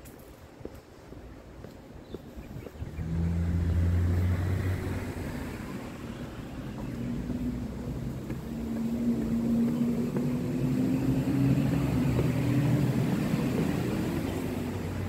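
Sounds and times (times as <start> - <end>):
vehicle engine passing by: 2.9 - 15.0.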